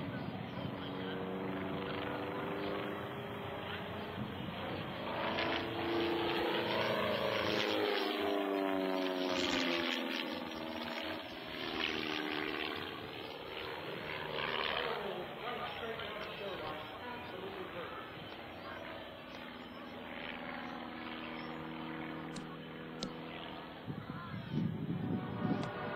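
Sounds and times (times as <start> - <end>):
plane engine and propeller droning: 0.0 - 25.9.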